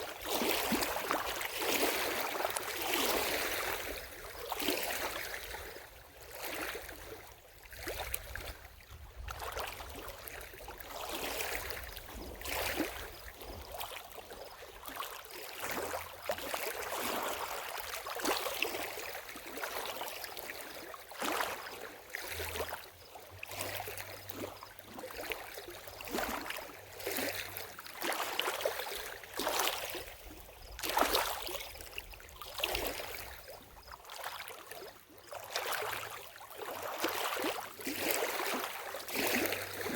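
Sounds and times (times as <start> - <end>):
lake water lapping at shore: 0.0 - 39.9.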